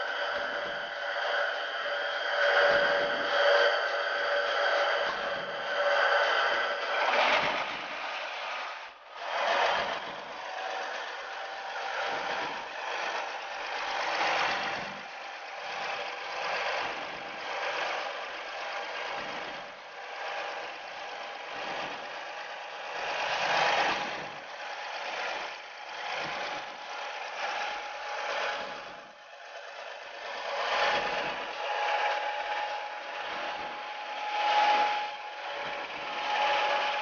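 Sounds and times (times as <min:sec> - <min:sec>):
faint steady whine: 0:00.0 - 0:37.0.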